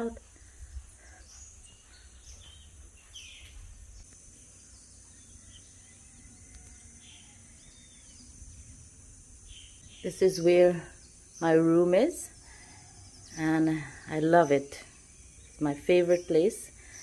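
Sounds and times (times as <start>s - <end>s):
high-pitched insect chorus: 0.1s - 17.0s.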